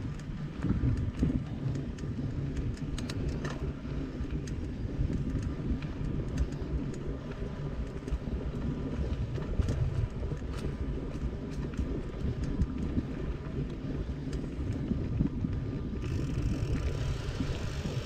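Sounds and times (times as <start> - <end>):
bike clicks and rattles: 0.0 - 18.0
tyres rumbling on rough trail: 0.0 - 18.0
wind on microphone: 0.0 - 18.0.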